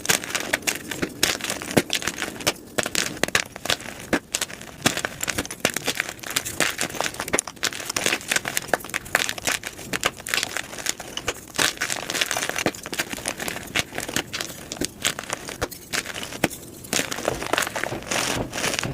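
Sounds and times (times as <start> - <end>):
chalk crushing and crackling: 0.0 - 18.9.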